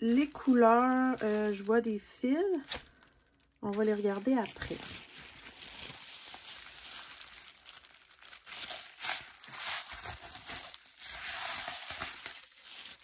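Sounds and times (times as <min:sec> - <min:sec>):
bubble-wrap mailer crinkling: 0:00.0 - 0:13.0.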